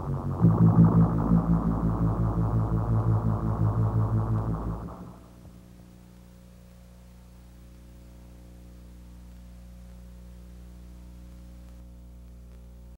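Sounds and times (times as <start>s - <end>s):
electrical mains hum: 0.0s - 12.9s
faint hiss: 1.0s - 12.9s.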